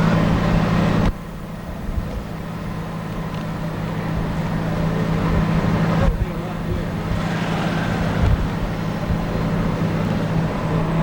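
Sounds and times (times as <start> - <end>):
road and wind noise: 0.0 - 11.0
vehicle motor humming: 0.0 - 11.0.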